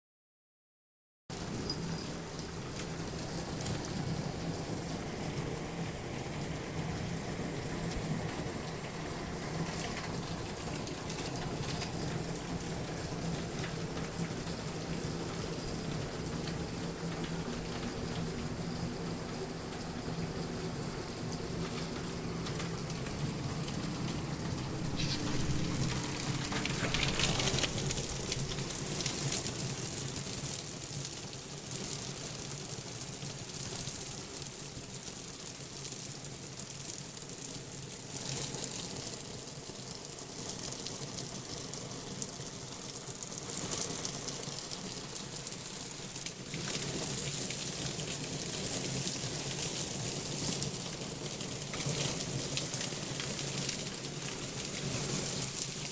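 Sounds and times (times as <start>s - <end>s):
heavy rain pouring: 1.3s - 55.9s.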